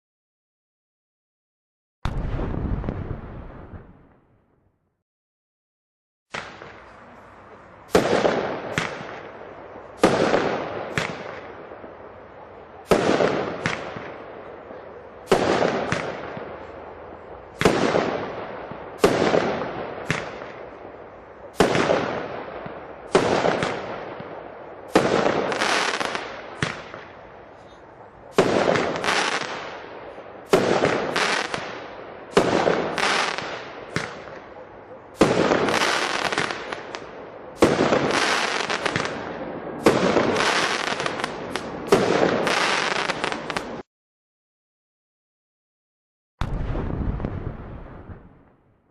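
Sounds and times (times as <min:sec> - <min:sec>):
firework shots with crackling tails: 0:02.0 - 0:04.7, 0:06.3 - 0:43.9, 0:46.4 - 0:48.8.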